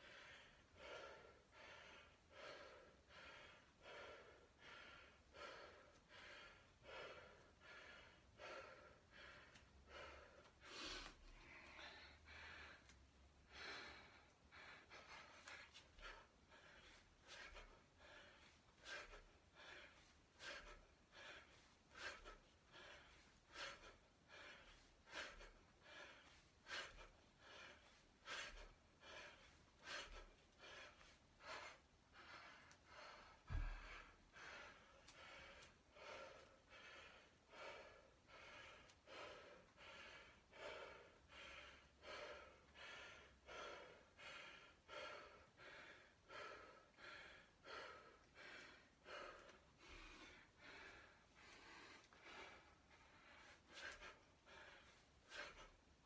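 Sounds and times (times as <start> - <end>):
man breathing hard: 0.0 - 56.0.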